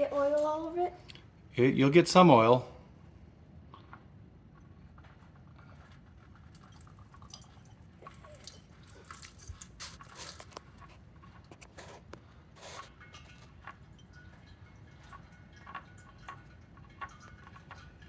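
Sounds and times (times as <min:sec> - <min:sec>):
oil dripping: 0:00.0 - 0:18.0.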